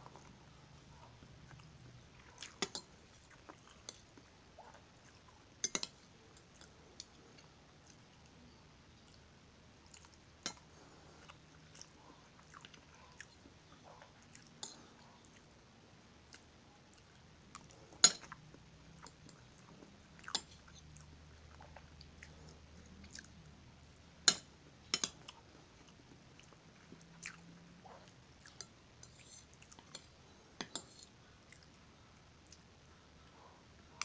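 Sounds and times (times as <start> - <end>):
quiet chewing: 0.0 - 23.6, 24.2 - 34.0.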